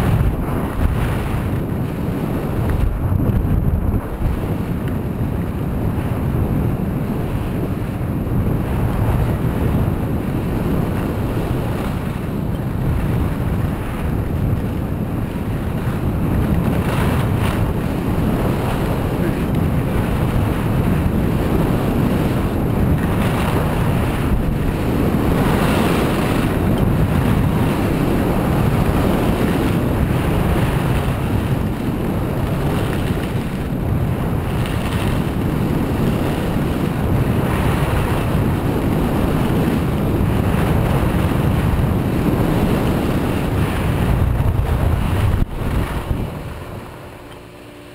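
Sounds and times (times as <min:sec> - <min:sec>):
skis scraping over snow: 0:00.0 - 0:47.9
wind on microphone: 0:00.0 - 0:47.9.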